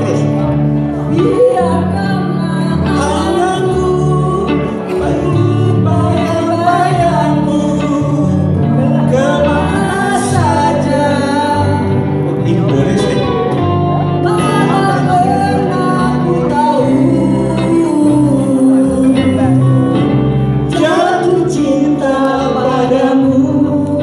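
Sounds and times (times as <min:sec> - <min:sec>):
woman singing into a microphone: 0:00.0 - 0:12.2, 0:13.8 - 0:24.0
acoustic and electric guitars: 0:00.0 - 0:24.0.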